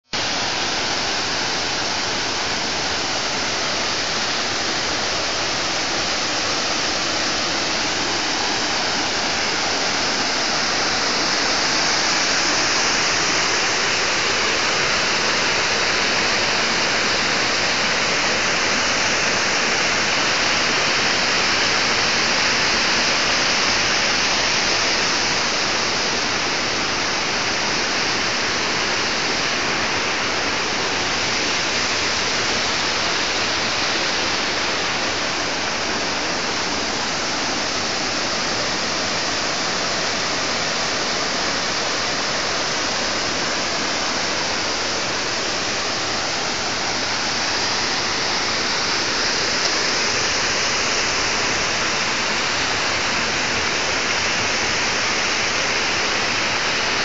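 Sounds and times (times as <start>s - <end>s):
stream cascading over rocks: 0.0s - 57.0s.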